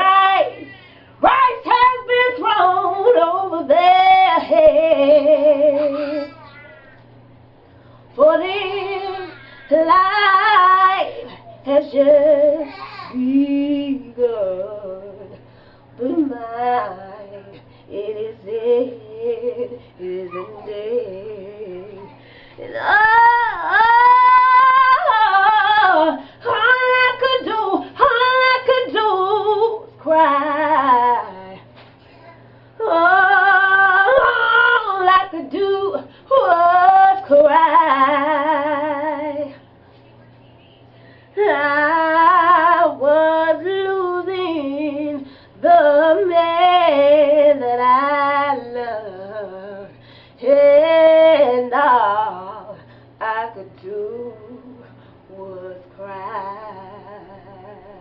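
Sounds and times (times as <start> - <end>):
woman singing with vibrato: 0.0 - 6.4, 8.2 - 15.4, 16.0 - 31.7, 32.8 - 39.6, 41.4 - 58.0.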